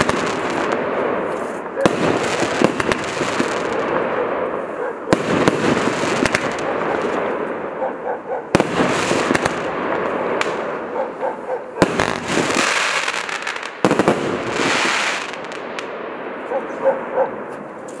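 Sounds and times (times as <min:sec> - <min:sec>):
firework crackling: 0:00.0 - 0:07.8, 0:08.5 - 0:11.0, 0:11.8 - 0:16.0
firework reports: 0:00.0 - 0:18.0.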